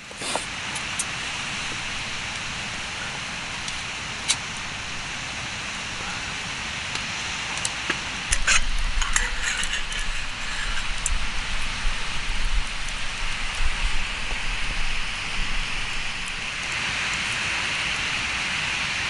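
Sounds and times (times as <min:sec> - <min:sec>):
campfire hissing and crackling: 0:00.0 - 0:19.0.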